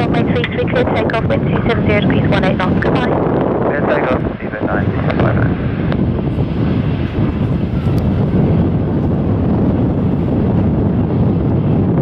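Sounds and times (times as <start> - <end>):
jet engines: 0.0 - 12.0
wind buffeting microphone: 0.0 - 12.0.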